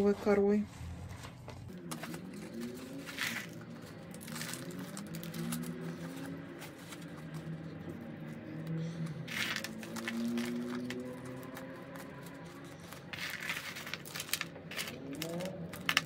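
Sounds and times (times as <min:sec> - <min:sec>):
bark chips rustling and pattering: 0:01.7 - 0:16.0.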